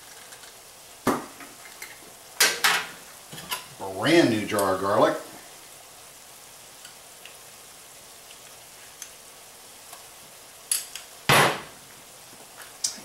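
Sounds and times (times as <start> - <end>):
meat and onions sizzling in pan: 0.0 - 13.0.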